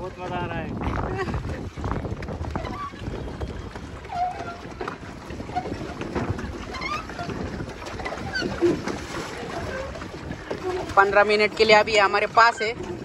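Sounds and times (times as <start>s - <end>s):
water sloshing around boat: 0.0s - 13.0s
wind buffeting microphone: 0.0s - 13.0s.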